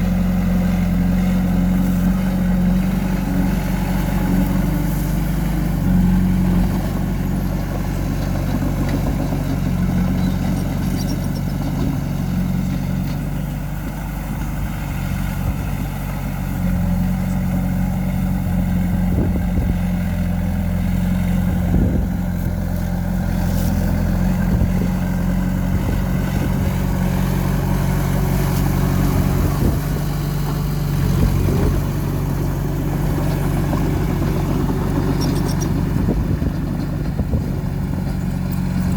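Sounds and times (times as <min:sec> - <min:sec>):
heavy diesel engine working: 0:00.0 - 0:38.9.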